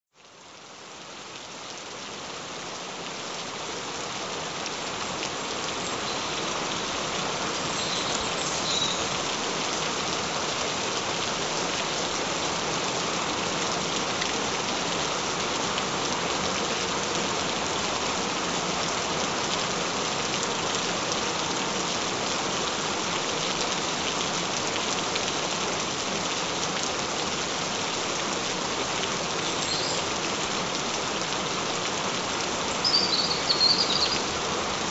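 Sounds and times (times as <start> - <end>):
gentle rain falling: 0.1 - 34.9.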